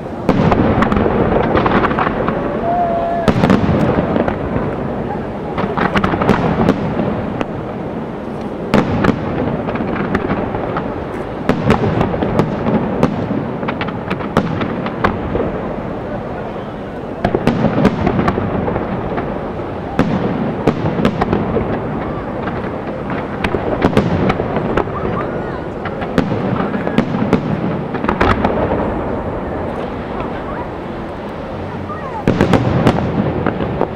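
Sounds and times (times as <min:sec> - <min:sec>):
fireworks bursts and crackle: 0:00.0 - 0:33.9
sharp firework bangs: 0:00.0 - 0:33.9.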